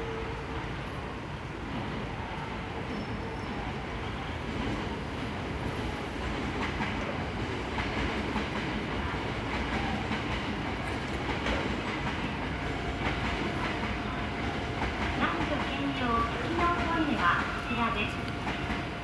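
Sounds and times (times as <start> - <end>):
electric train rumbling past: 0.0 - 19.0.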